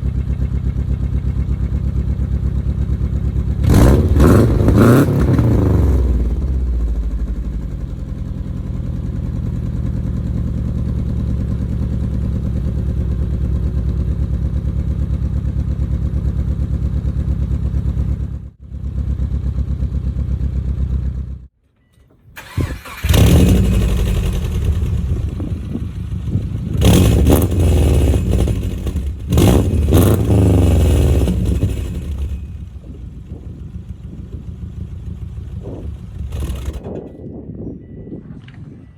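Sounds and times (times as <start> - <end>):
car engine idling and revving: 0.0 - 21.6, 22.4 - 38.0.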